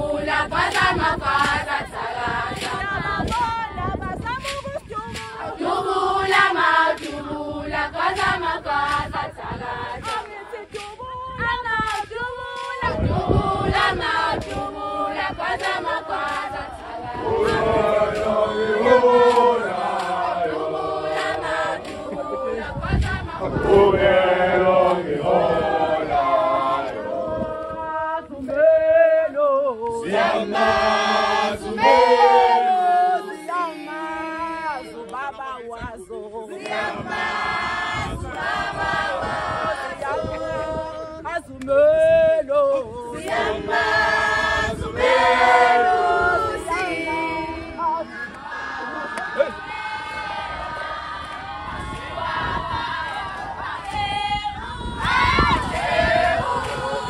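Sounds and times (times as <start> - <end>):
women singing in chorus: 0.0 - 57.0.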